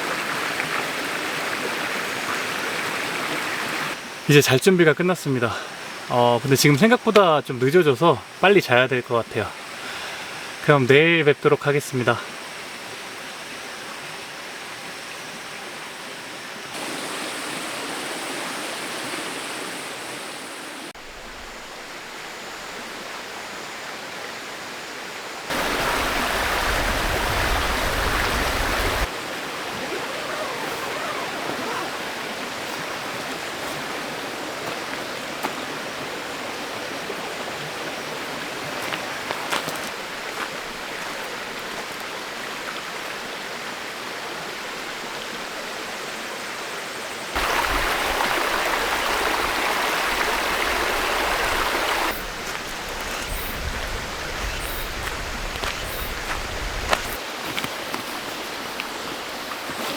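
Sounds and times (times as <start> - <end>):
stream rushing over rocks: 0.0 - 15.6, 16.2 - 24.1, 25.4 - 59.9.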